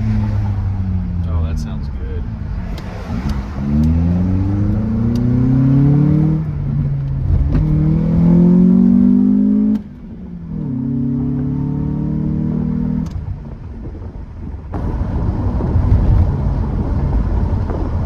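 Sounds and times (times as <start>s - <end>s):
car engine accelerating hard: 0.0s - 14.1s, 14.7s - 18.0s.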